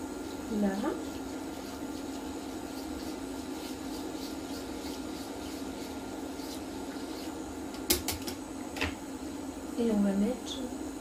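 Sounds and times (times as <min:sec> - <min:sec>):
cooling fan hum: 0:00.0 - 0:11.0.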